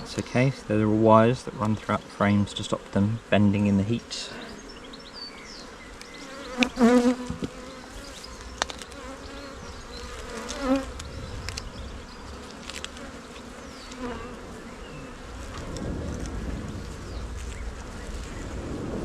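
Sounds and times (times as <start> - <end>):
bees buzzing: 0.0 - 18.6.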